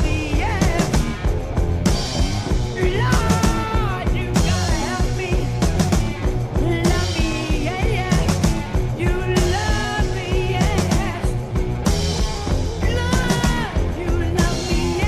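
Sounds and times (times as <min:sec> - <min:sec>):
heavy rock band playing: 0:00.0 - 0:15.0.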